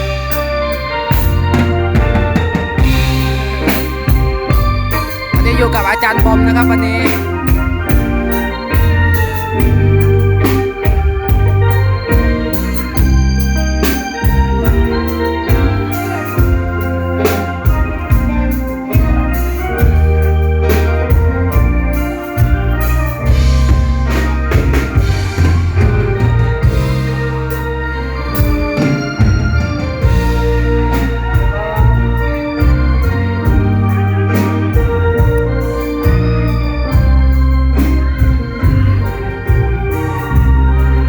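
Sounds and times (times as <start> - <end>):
electronic keyboard organ melody: 0.0 - 41.0
heavy bass: 0.0 - 41.0
steady drum beat: 0.0 - 41.0.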